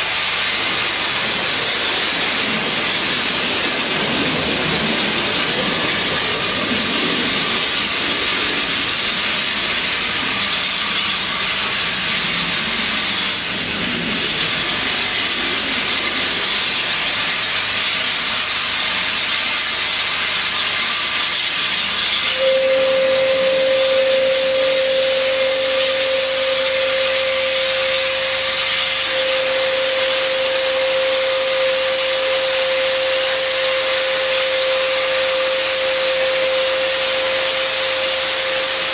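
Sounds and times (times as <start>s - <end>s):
steam hissing: 0.0s - 38.9s
steam whistling note: 0.0s - 38.9s.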